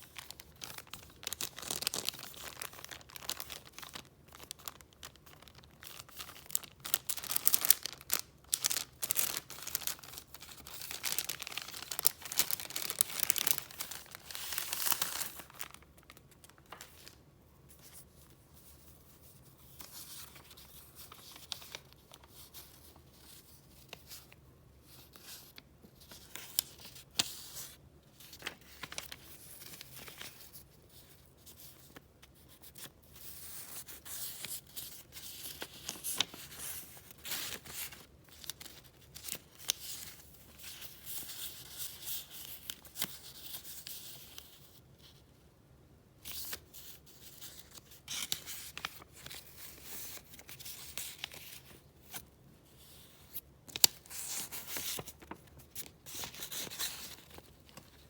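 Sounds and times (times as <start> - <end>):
paper rustling and crinkling: 0.0 - 24.3, 24.9 - 45.2, 46.2 - 58.0.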